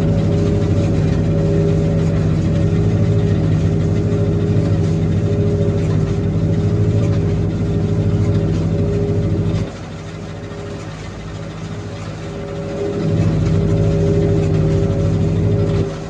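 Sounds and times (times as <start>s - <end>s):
old tractor engine running: 0.0s - 16.0s.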